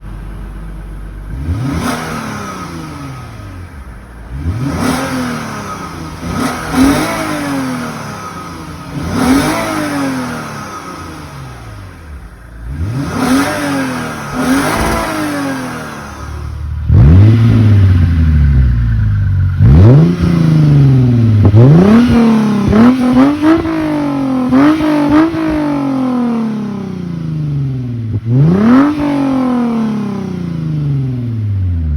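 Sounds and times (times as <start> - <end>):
car engine revving: 1.2 - 31.8.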